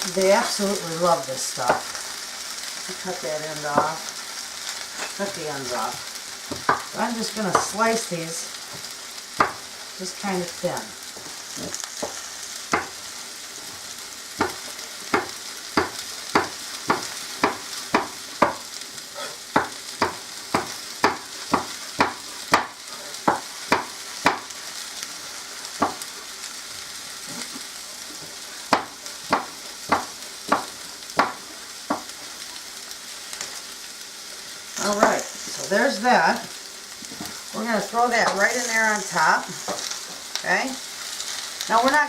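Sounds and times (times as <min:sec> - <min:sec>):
potatoes and onions sizzling: 0:00.0 - 0:42.0.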